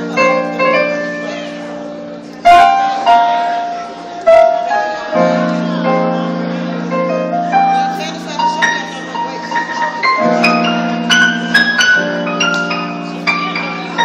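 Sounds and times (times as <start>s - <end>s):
solo piano playing: 0.0s - 14.0s.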